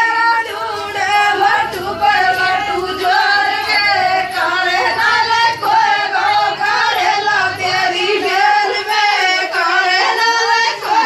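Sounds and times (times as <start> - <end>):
voices singing folk song: 0.0 - 11.0.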